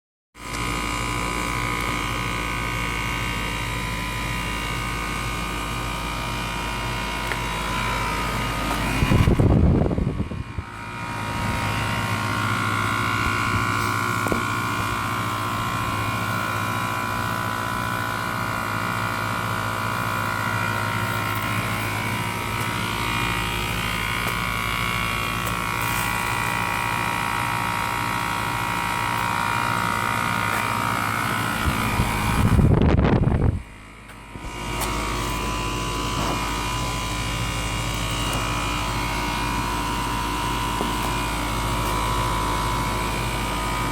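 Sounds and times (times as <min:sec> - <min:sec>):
steady machine hum: 0:00.4 - 0:43.9.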